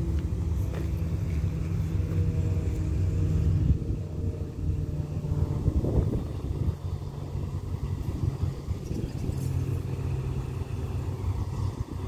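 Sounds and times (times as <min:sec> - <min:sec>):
vehicle engines idling: 0:00.0 - 0:12.0.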